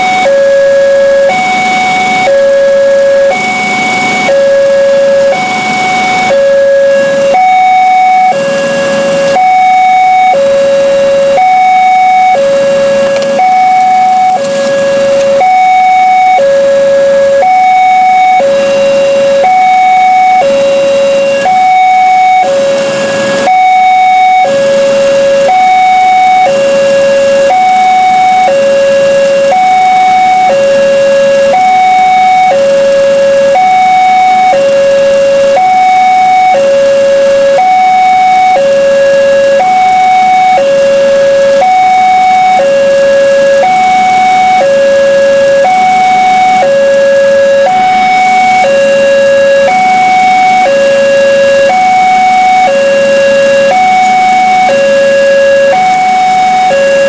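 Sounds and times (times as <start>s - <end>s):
two-tone warning siren: 0.0s - 57.0s.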